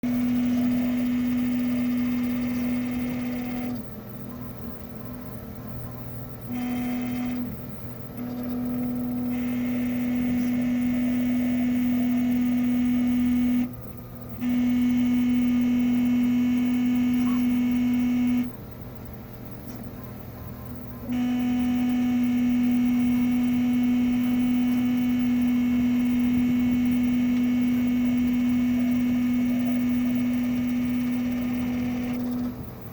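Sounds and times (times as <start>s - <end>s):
three d printer groaning: 0.0s - 13.7s, 14.3s - 18.5s, 20.7s - 32.9s.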